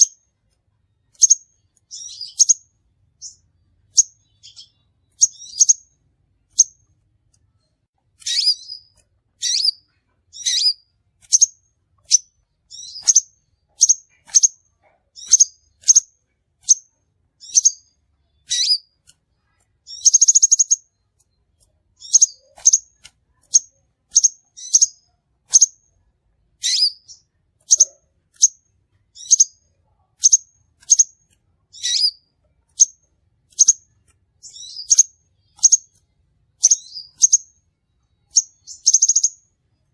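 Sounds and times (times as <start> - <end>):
sharp high bird chirps: 0.0 - 0.3, 1.0 - 6.9, 8.2 - 21.4, 22.0 - 25.9, 26.6 - 39.6
buzzy bird trill: 1.0 - 6.9, 8.2 - 21.1, 22.0 - 25.9, 26.6 - 39.6.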